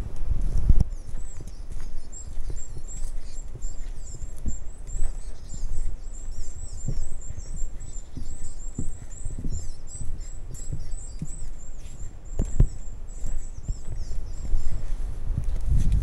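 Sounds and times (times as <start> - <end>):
footsteps thudding: 0.0 - 16.0
songbirds chirping: 0.0 - 16.0.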